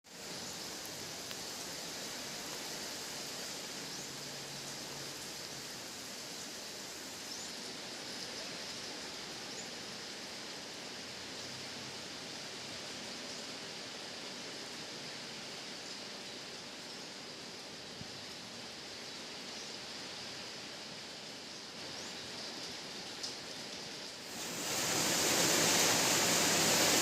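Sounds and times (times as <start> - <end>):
rain falling: 0.1 - 27.0.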